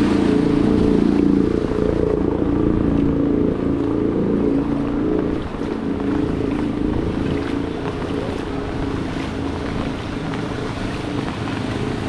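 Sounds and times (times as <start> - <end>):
water swishing: 0.0 - 12.0.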